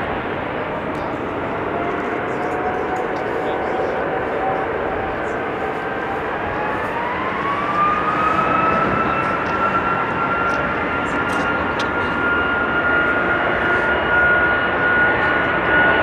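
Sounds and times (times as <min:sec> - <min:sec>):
jet noise rush: 0:00.0 - 0:15.4
jet engine whine: 0:00.0 - 0:16.0.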